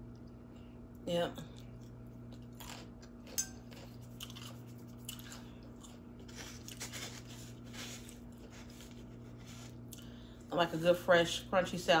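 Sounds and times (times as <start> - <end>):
chewing crunchy salad: 0.0 - 10.2.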